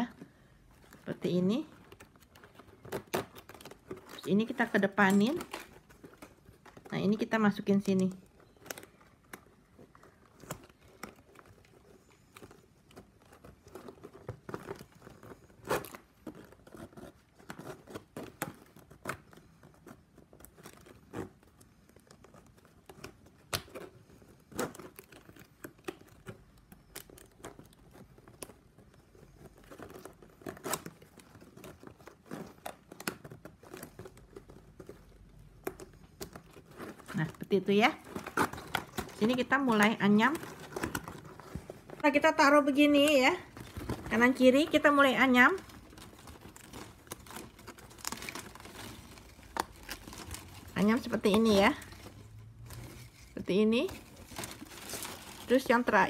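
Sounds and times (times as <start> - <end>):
plastic strapping crinkling: 0.0 - 56.0.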